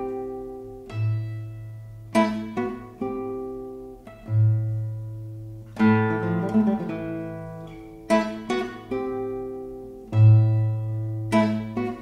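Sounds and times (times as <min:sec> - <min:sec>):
acoustic guitar music from cassette: 0:00.0 - 0:12.0.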